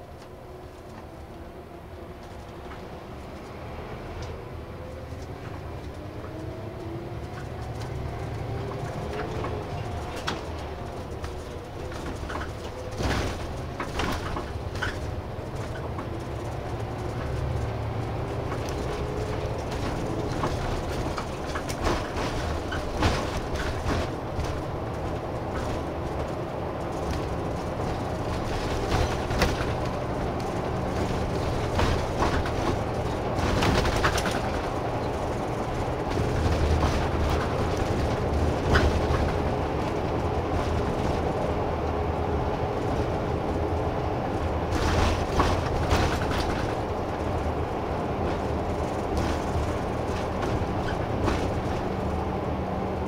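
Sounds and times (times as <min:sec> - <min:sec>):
bus diesel engine hum: 0:00.0 - 0:53.0
road noise: 0:00.0 - 0:53.0.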